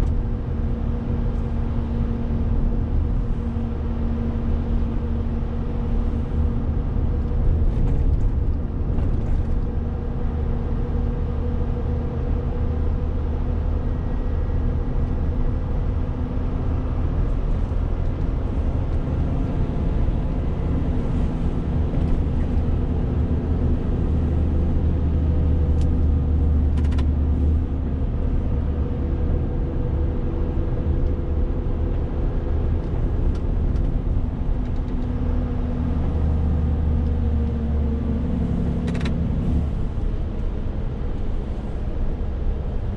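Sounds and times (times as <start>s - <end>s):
road rumble: 0.0s - 42.9s
truck diesel engine drone: 0.0s - 42.9s.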